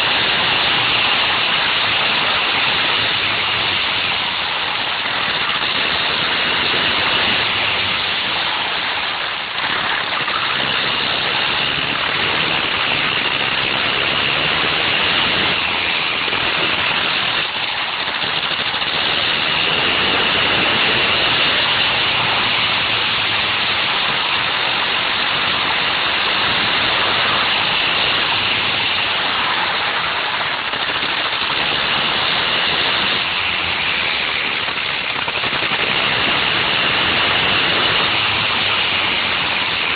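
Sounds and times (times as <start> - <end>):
go-kart rotary engine drone: 0.0 - 39.9
wind rush: 0.0 - 39.9.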